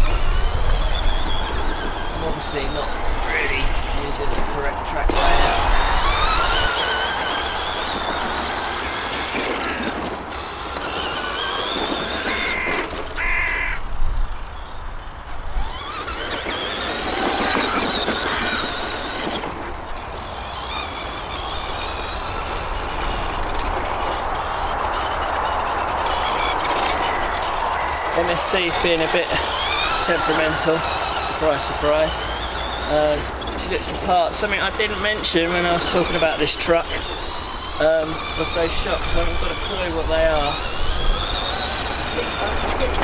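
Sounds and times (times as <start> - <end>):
electric motor and gearbox whining: 0.0 - 43.0.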